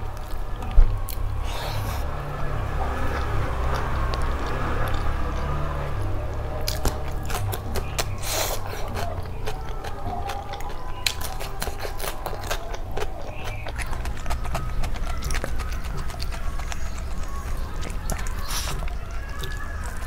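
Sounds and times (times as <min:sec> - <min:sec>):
crunching and chewing cucumber: 0:00.0 - 0:20.0.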